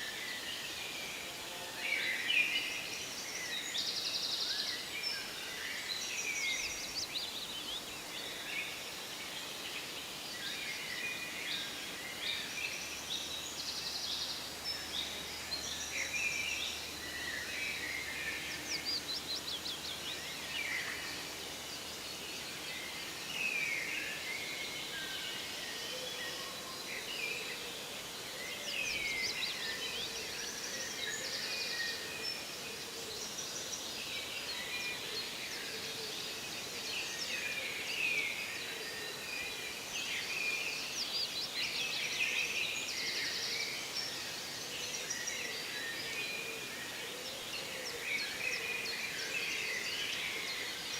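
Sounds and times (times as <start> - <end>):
steady background hiss: 0.0 - 50.9.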